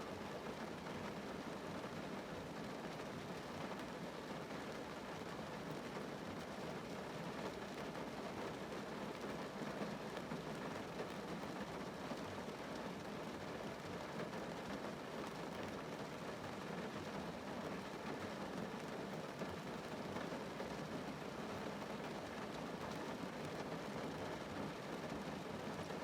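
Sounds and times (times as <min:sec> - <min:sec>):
rain on car roof and glass: 0:00.1 - 0:26.0.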